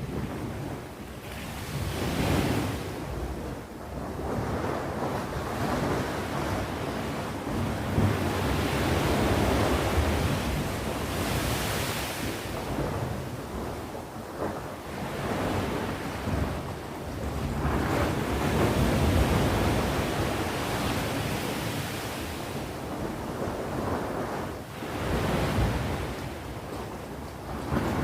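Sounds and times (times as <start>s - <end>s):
waves breaking on shore: 0.0s - 28.0s
wind buffeting microphone: 0.0s - 28.0s.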